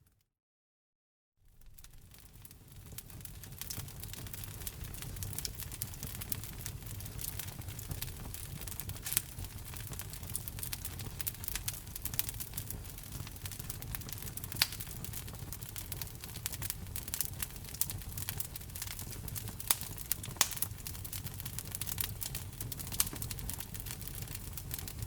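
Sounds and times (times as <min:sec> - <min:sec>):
wood logs crackling in fireplace: 0:01.5 - 0:25.0
sharp fire pops: 0:01.6 - 0:25.0.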